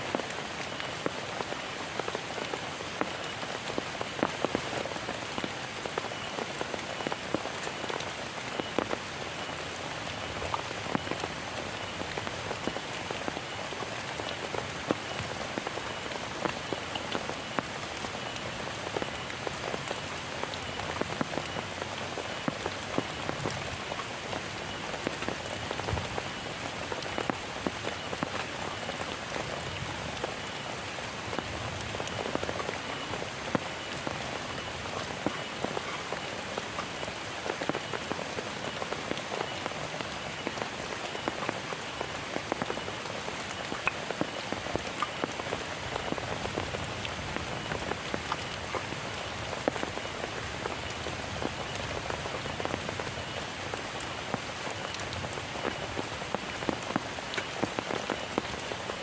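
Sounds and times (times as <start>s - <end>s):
heavy rain falling: 0.0s - 59.0s
raindrops ticking on surface: 0.0s - 59.0s.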